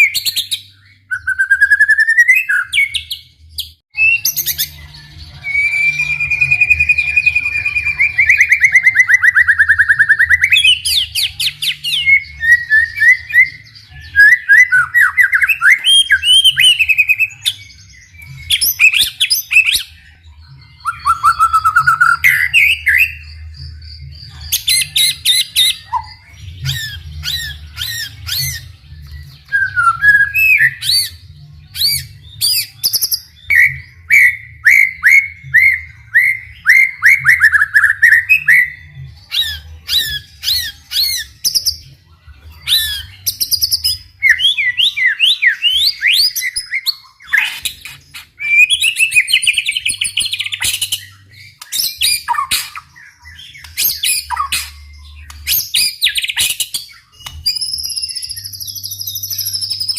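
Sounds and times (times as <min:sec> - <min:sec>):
bird singing varied whistled song: 0:00.0 - 0:59.9.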